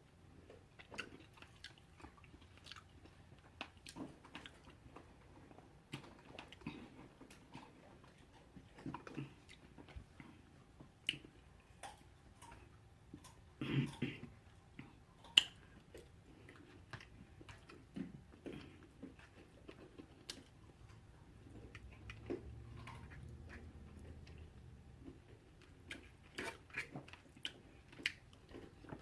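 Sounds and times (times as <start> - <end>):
chewing and wet mouth clicks: 0.5 - 29.0.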